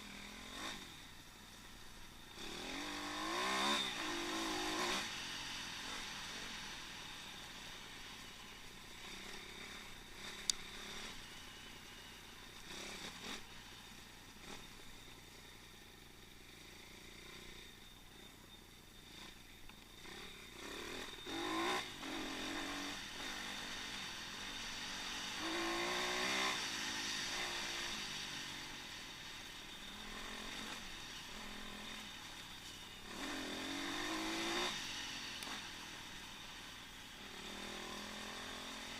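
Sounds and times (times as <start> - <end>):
pit bike engine revving: 0.0 - 1.1, 1.9 - 6.7, 8.7 - 15.1, 19.0 - 38.9.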